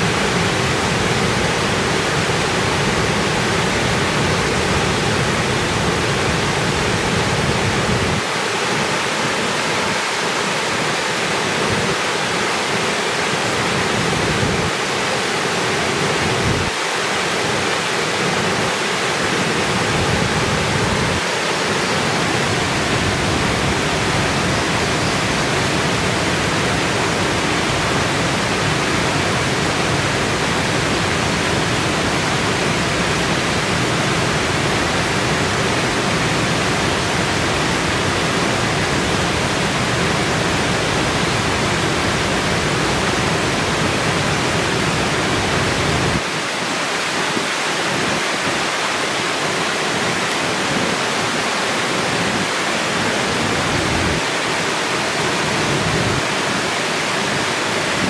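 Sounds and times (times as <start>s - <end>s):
river water rushing over weir: 0.0s - 58.0s.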